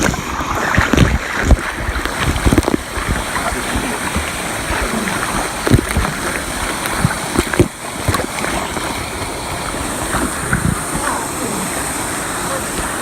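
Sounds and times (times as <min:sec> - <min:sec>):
rush of moving water: 0:00.0 - 0:13.0
water splashing from swimming: 0:00.0 - 0:13.0.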